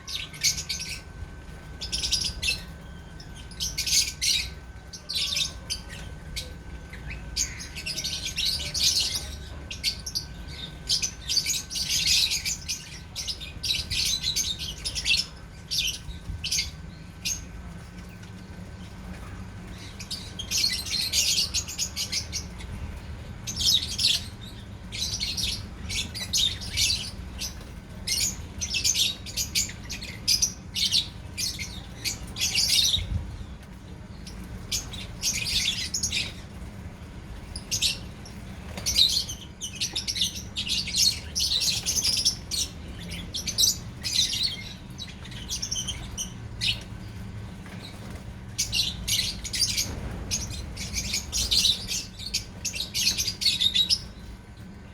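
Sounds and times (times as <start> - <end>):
birds chirping and squawking: 0.0 - 54.9
steady low hum: 0.0 - 54.9.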